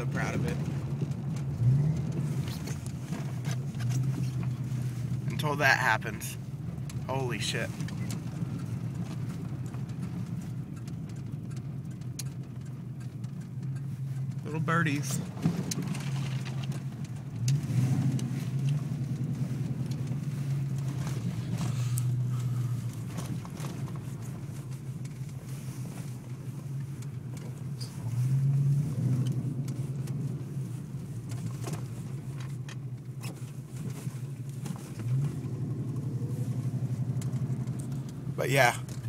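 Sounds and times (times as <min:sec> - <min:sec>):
car engine drone from cabin: 0:00.0 - 0:39.0.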